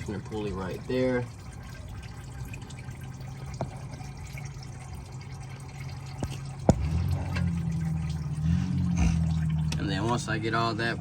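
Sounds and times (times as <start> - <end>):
coolant trickling and splashing: 0.0 - 11.0
steady low hum: 1.3 - 11.0.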